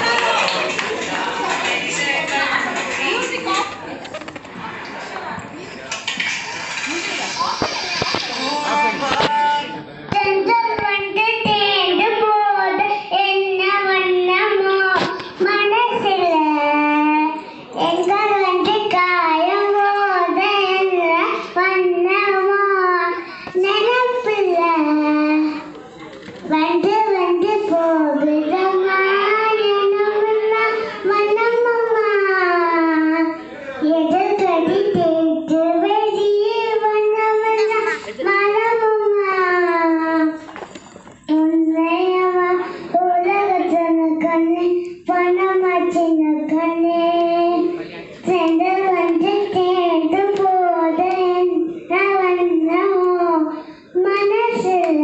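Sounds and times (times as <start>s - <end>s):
girl singing into microphone: 7.0s - 25.8s, 26.4s - 40.6s, 41.2s - 55.0s.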